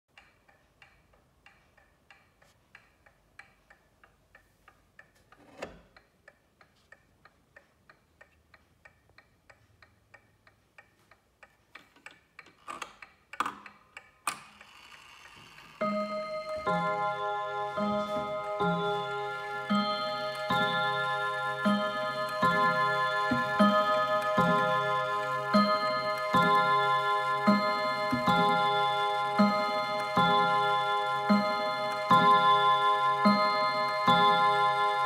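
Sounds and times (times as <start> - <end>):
clock ticking: 0.1 - 35.0.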